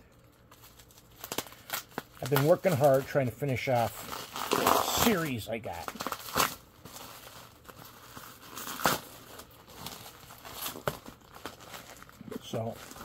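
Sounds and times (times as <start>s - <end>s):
packing material crinkling: 0.0s - 13.0s.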